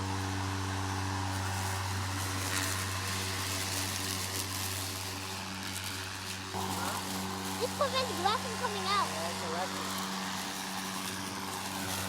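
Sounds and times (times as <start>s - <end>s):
electric lawn mower running: 0.0s - 12.0s.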